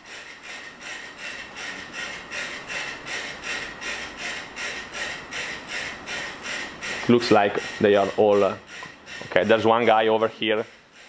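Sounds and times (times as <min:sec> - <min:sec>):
metronomes ticking: 0:00.3 - 0:11.0.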